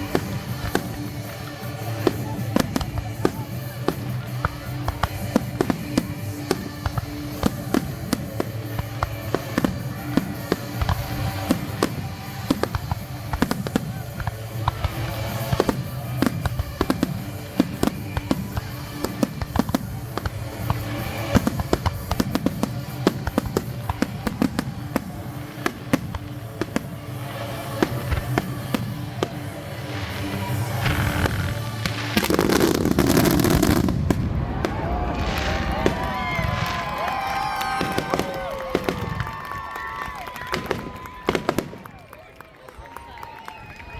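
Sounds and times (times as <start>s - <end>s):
music playing: 0.0s - 42.2s
fireworks bangs and crackling: 0.0s - 43.9s.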